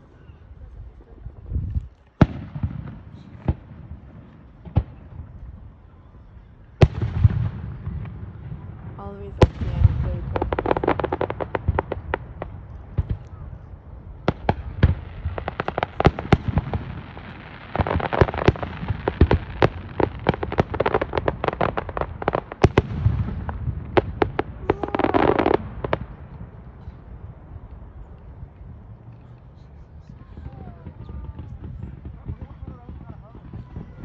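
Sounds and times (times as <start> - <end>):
fireworks bangs and crackling: 0.9 - 34.0.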